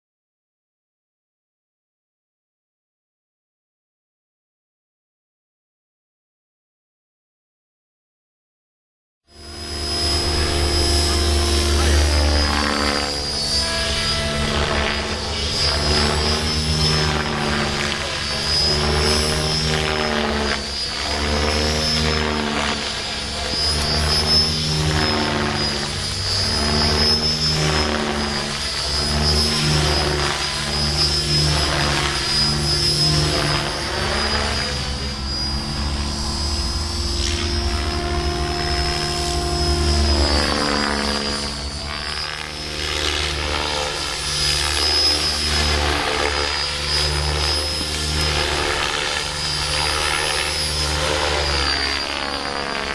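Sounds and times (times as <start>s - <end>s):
model helicopter rotor whine: 9.3s - 52.9s.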